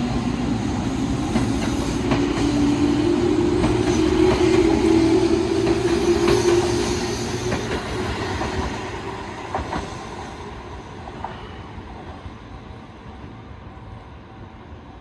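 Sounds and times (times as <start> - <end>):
low train hum: 0.0 - 15.0.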